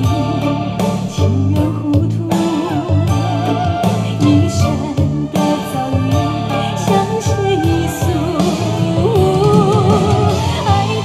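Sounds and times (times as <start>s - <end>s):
woman singing song over speakers: 0.0s - 11.0s.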